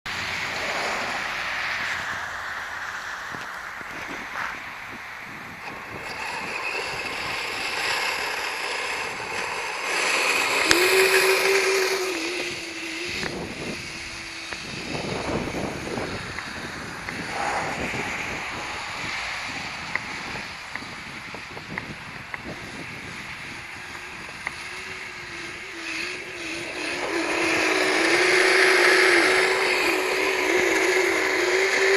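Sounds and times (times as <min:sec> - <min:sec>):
tracks rushing: 0:00.1 - 0:31.9
wind buffeting microphone: 0:00.1 - 0:31.9
small electric motor whine: 0:00.2 - 0:31.9.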